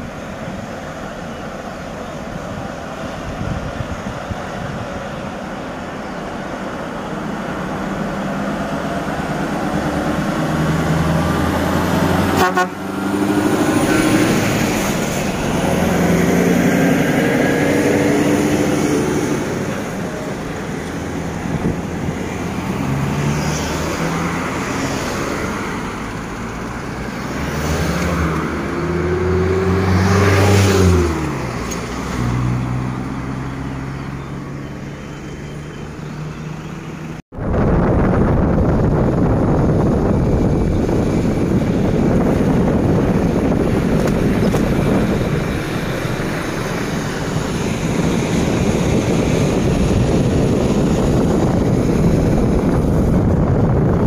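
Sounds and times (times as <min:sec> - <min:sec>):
heavy truck engine accelerating: 0:00.0 - 0:54.0
road and traffic noise: 0:00.0 - 0:54.0.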